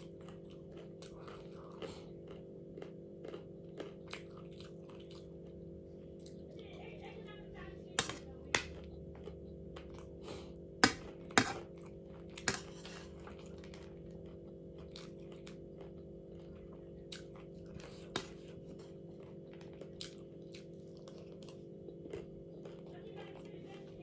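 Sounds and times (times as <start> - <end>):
person chewing crunchy food: 0.0 - 6.5, 8.0 - 22.9.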